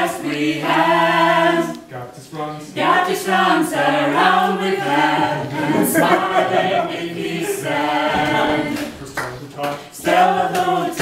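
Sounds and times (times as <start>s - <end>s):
group singing in unison: 0.0s - 11.0s.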